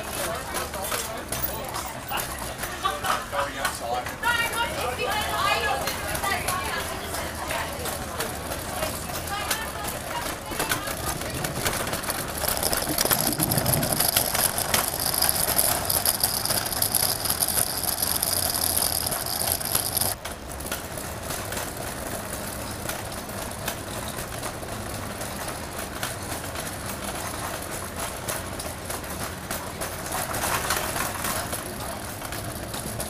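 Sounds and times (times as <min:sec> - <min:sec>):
city street traffic: 0:00.0 - 0:33.0.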